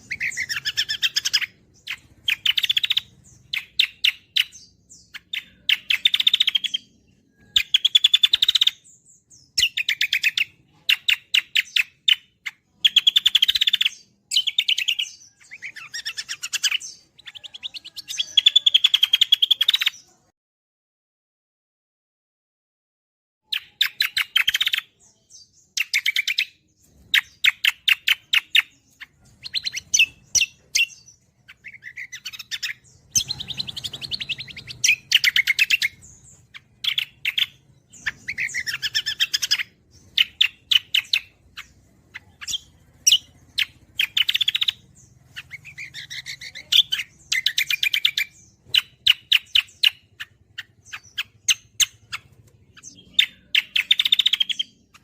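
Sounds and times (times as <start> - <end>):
songbird chattering song: 0.0 - 20.3, 23.4 - 55.0.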